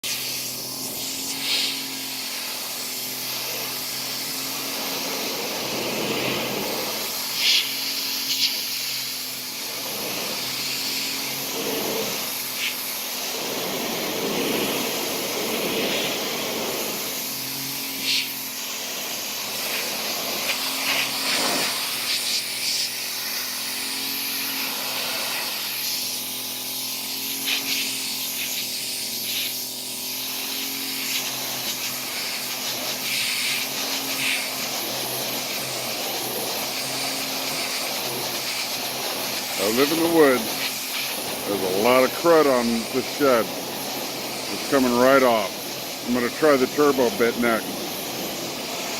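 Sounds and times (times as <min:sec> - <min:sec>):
pressure washer humming: 0:00.0 - 0:48.9
water jet hissing: 0:00.0 - 0:48.9.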